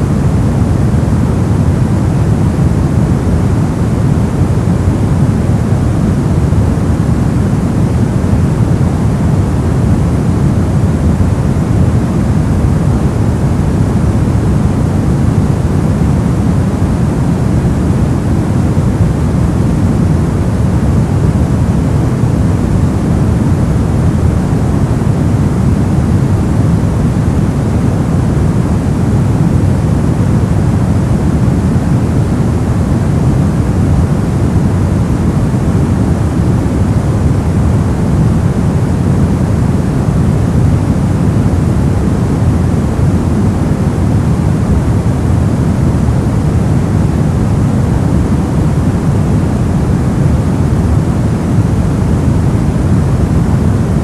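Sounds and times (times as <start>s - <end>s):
brown noise rumbling hiss: 0.0s - 54.0s.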